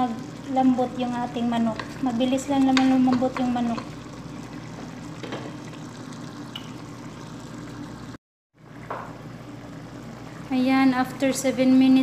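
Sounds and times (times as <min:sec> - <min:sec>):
pot boiling bubbling hiss: 0:00.0 - 0:12.0.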